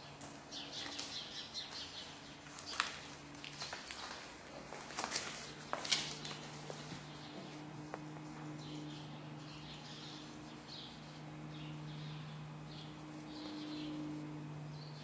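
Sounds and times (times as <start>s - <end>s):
small birds chirping: 0.0s - 4.3s, 5.4s - 15.0s
steady low hum: 0.0s - 15.0s.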